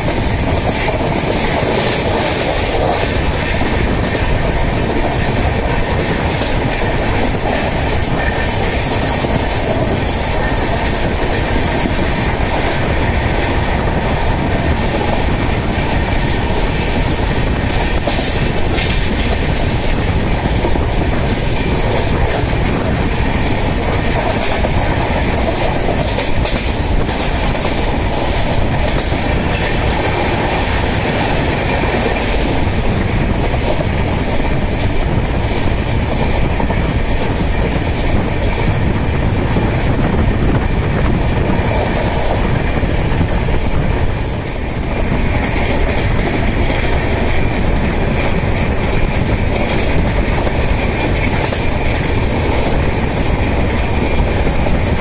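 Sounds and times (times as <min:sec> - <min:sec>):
clatter over rail joints: 0:00.0 - 0:55.0
train wheels rumbling on rails: 0:00.0 - 0:55.0
wind rush: 0:00.0 - 0:55.0.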